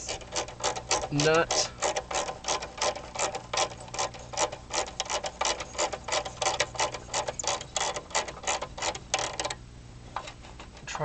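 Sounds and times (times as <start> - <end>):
ratcheting wrench clicking: 0.0 - 9.6.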